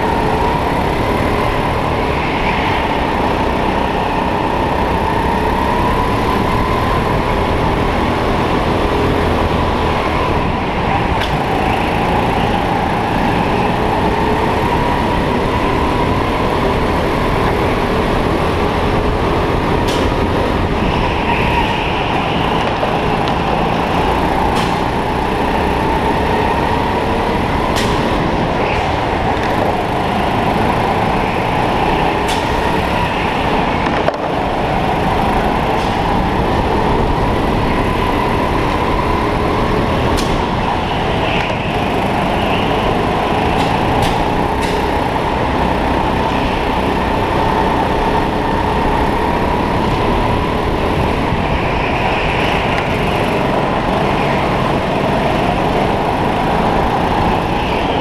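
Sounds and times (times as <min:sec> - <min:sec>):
kart motor whining: 0:00.0 - 0:58.0.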